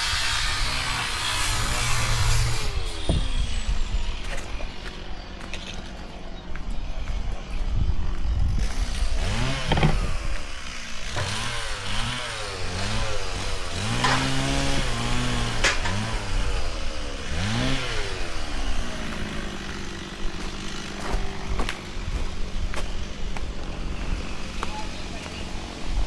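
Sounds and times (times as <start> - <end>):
small engine revving: 0.0 - 5.8, 8.1 - 26.0.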